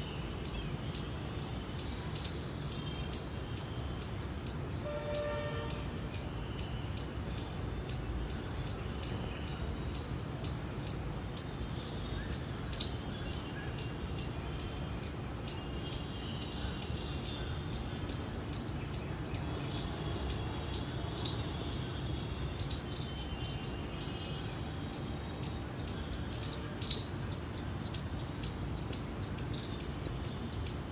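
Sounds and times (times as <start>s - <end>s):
squirrel chirping: 0.0s - 30.9s.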